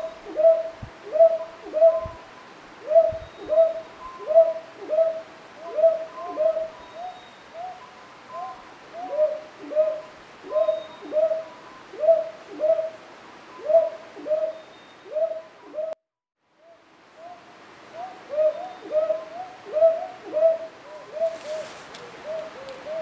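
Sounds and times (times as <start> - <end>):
owl hooting: 0.0 - 13.0, 16.6 - 23.0.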